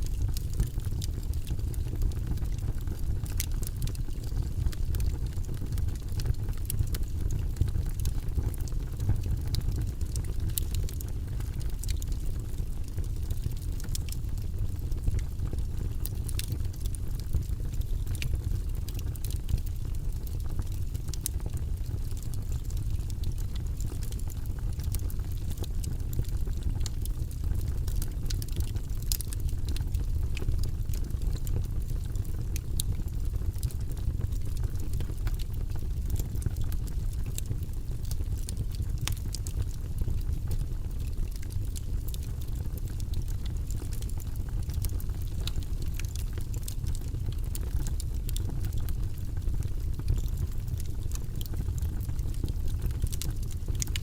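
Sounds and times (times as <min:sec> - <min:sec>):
burning wood crackling and popping: 0:00.0 - 0:54.0
fire rumbling: 0:00.0 - 0:54.0.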